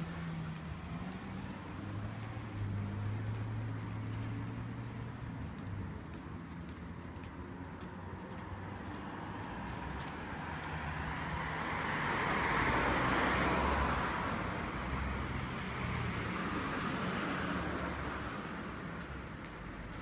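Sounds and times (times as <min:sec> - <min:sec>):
cars passing: 0:00.0 - 0:20.0
steady traffic background: 0:00.0 - 0:20.0.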